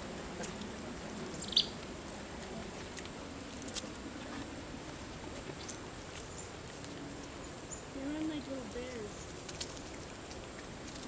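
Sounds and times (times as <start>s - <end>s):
outdoor background: 0.0s - 11.0s.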